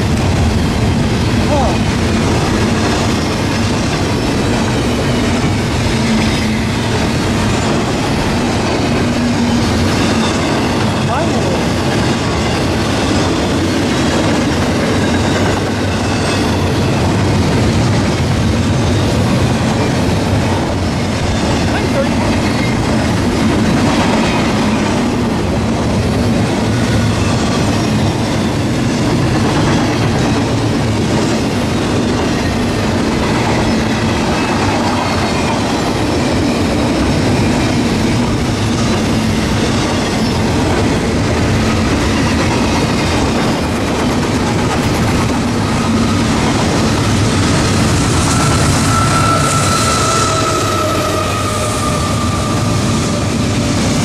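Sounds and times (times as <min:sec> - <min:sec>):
clickety-clack of train cars: 0:00.0 - 0:54.0
high locomotive whine: 0:00.0 - 0:54.0
train wheels rumbling on rails: 0:00.0 - 0:54.0.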